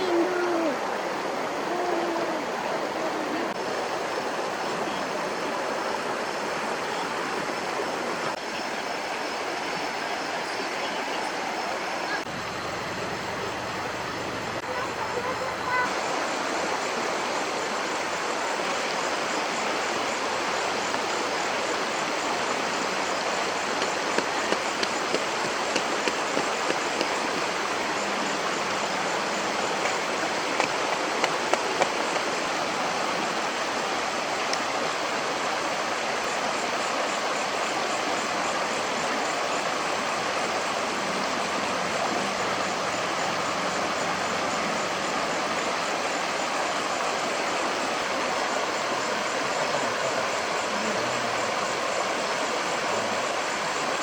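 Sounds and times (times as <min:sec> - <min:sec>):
stream water over stones: 0:00.0 - 0:54.0.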